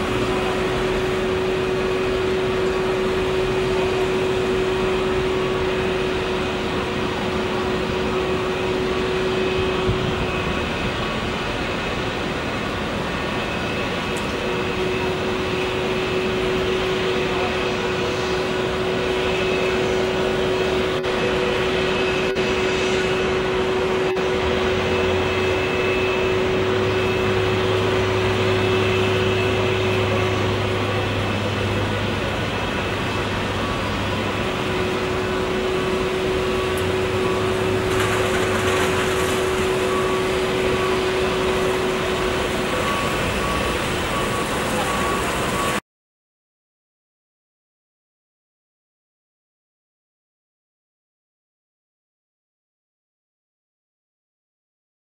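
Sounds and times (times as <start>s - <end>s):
deeper drone: 0.0s - 45.8s
jet engines idling: 0.0s - 45.8s.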